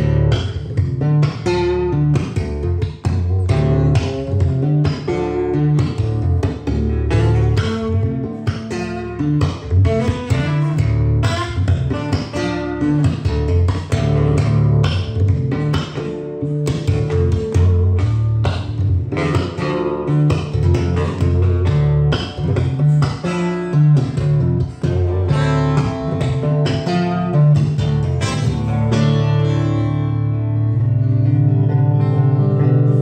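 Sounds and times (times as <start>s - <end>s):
bass line: 0.0s - 33.0s
plucked guitar notes: 0.0s - 33.0s.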